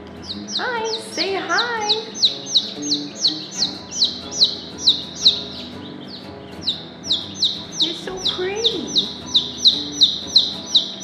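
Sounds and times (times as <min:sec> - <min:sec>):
chick peeping: 0:00.2 - 0:11.0.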